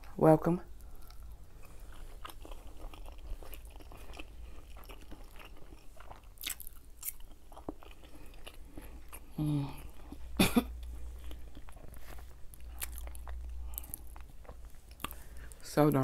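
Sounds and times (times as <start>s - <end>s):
low steady hum: 0.0s - 16.0s
chewing food: 0.7s - 16.0s.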